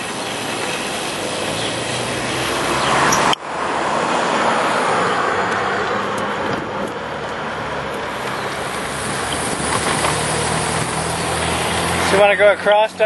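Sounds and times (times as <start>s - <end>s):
vehicle engines passing and idling: 0.0s - 13.0s.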